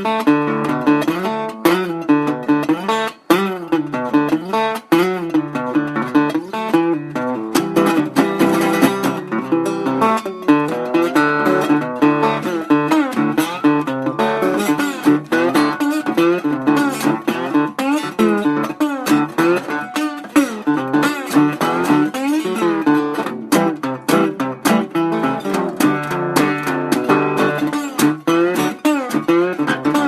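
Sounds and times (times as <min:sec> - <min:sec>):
slide guitar blues: 0:00.0 - 0:30.0.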